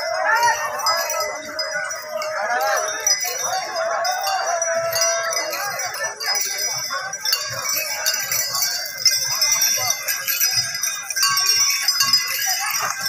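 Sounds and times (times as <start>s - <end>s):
bells ringing: 0.0s - 13.0s
crowd voices calling out: 0.0s - 13.0s.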